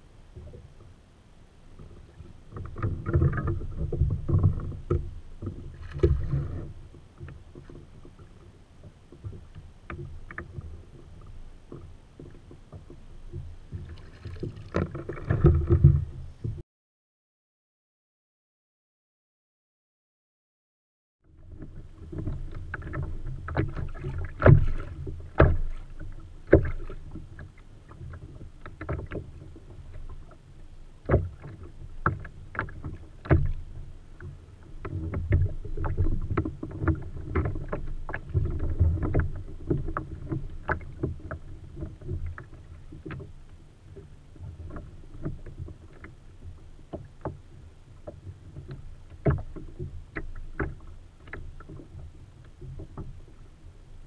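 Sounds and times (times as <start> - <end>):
water lapping against kayak hull: 0.0 - 16.6, 21.3 - 54.0.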